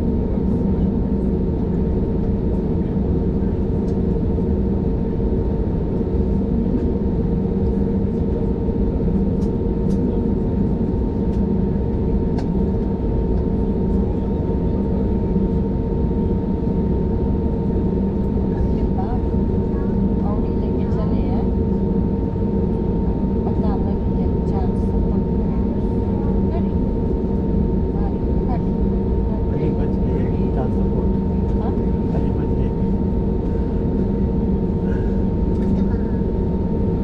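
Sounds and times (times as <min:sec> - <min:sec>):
airliner cabin drone: 0:00.0 - 0:37.0.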